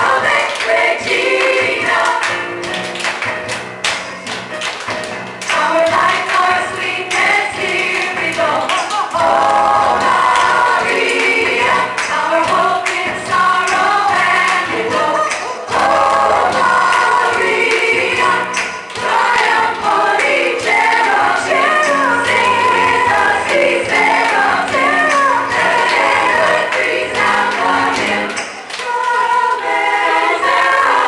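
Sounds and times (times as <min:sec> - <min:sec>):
choir singing gospel song: 0:00.0 - 0:02.6, 0:05.5 - 0:31.0.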